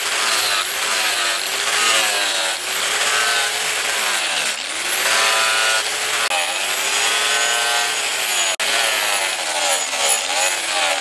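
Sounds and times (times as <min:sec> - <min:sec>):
angle grinder grinding steel: 0:00.0 - 0:11.0.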